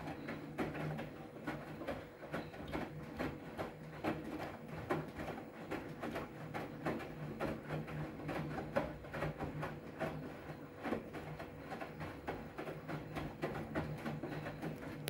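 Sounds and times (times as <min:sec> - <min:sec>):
laundry tumbling and water sloshing: 0:00.0 - 0:15.0
washing machine motor hum: 0:00.0 - 0:15.0.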